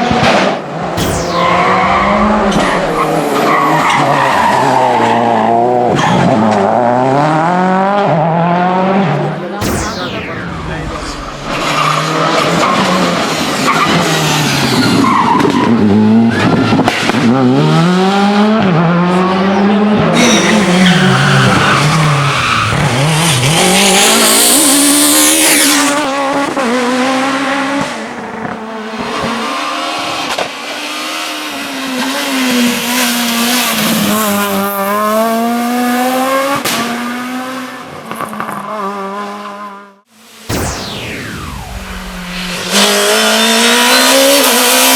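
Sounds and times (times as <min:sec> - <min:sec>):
rally car engines revving: 0:00.0 - 0:09.7, 0:10.5 - 0:40.5, 0:41.8 - 0:44.9.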